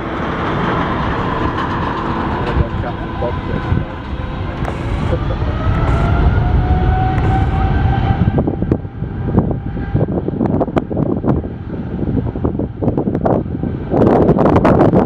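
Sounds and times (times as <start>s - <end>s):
jet engines rumbling and whining: 0.0s - 15.0s
wind buffeting microphone: 0.0s - 15.0s.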